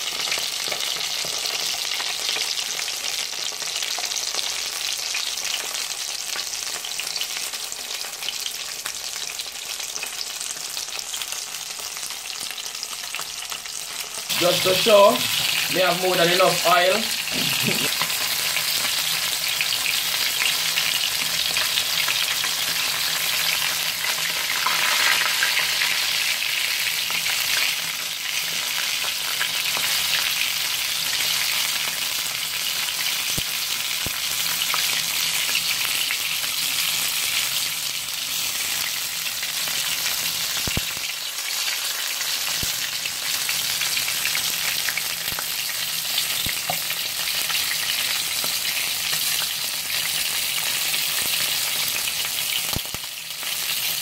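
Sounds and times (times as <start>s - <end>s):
fish sizzling in oil: 0.0s - 54.0s.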